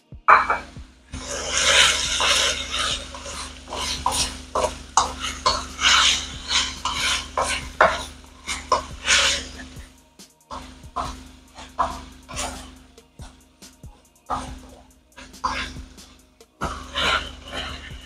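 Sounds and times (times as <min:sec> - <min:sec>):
low steady hum: 0:00.0 - 0:18.0
wooden spatula scraping a wok: 0:00.3 - 0:09.8, 0:10.5 - 0:12.8, 0:14.3 - 0:18.0.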